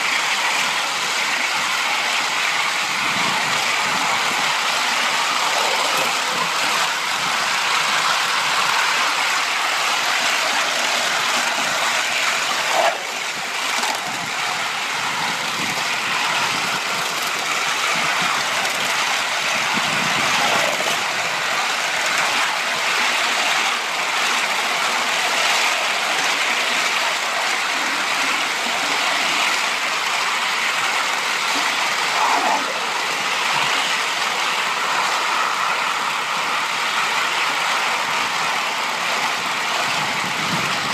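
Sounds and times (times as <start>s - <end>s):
steam hiss: 0.0s - 40.9s
wheels clattering on rails: 0.0s - 40.9s.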